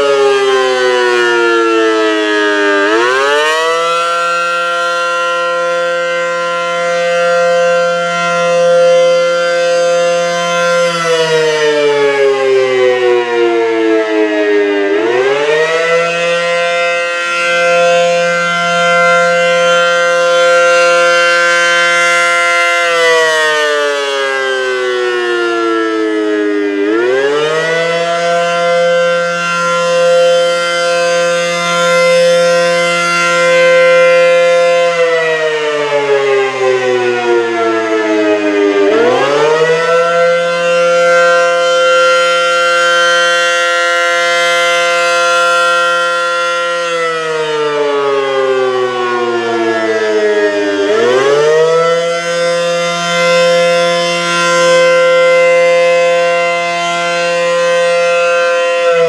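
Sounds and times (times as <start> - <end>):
wailing siren: 0.0 - 59.0.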